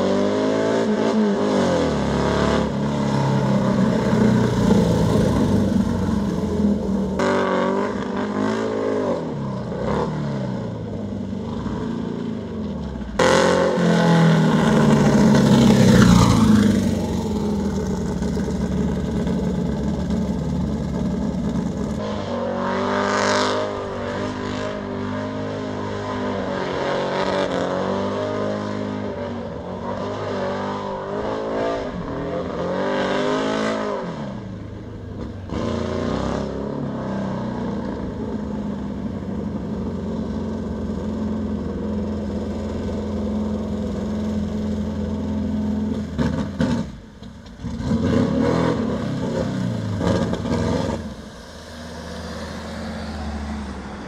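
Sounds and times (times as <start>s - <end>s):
race buggy engine revving and idling: 0.0s - 54.0s.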